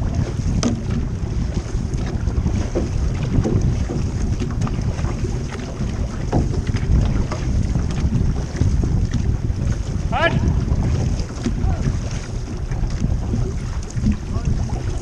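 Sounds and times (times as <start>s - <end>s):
water splashing around canoe: 0.0s - 15.0s
wind buffeting microphone: 0.0s - 15.0s.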